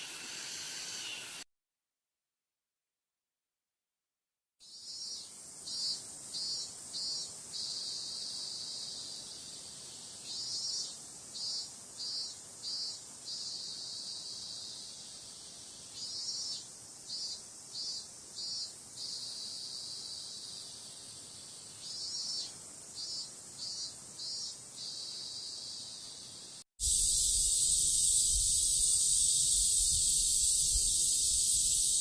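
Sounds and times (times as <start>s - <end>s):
cicada pulsed call: 0.0s - 1.4s, 4.6s - 32.0s
cicadas buzzing: 0.0s - 1.4s, 4.6s - 32.0s.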